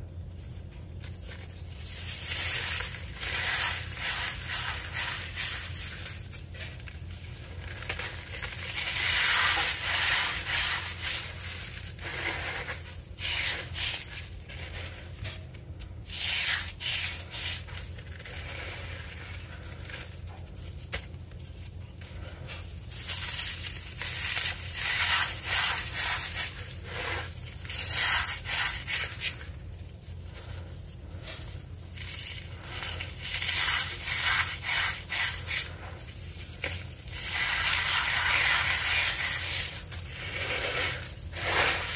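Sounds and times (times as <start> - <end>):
cornstarch pieces crunching: 0.2 - 15.4, 16.0 - 41.9.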